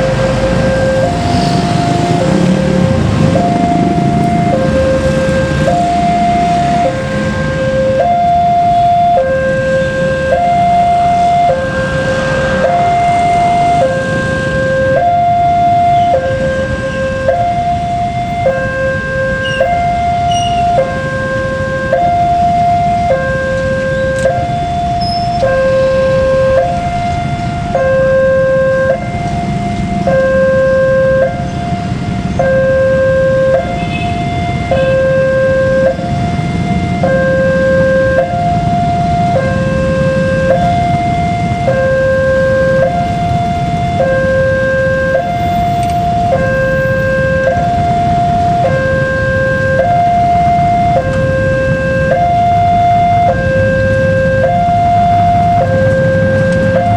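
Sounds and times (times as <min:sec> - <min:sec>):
low traffic rumble: 0:00.0 - 0:56.9
two-tone crossing alarm: 0:00.0 - 0:56.9.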